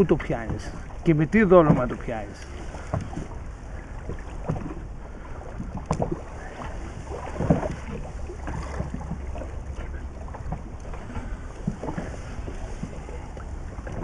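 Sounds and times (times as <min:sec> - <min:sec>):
steady low rumble: 0:00.0 - 0:14.0
water slapping boat hull: 0:00.0 - 0:14.0.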